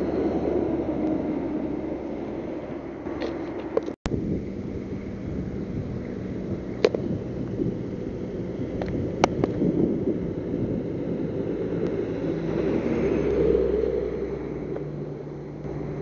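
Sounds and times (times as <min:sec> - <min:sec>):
highway traffic rumble: 0:00.0 - 0:16.0
vehicle engine: 0:00.0 - 0:16.0
wind buffeting microphone: 0:00.0 - 0:16.0.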